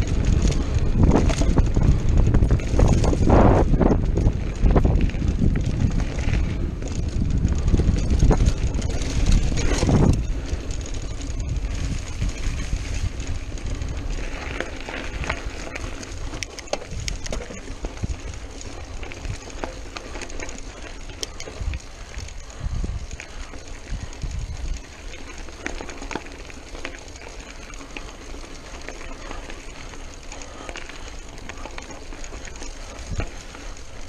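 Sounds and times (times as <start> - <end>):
bike rattling and clicking: 0.0 - 34.0
tyres rolling over dirt: 0.0 - 34.0
wind buffeting the microphone: 0.0 - 34.0.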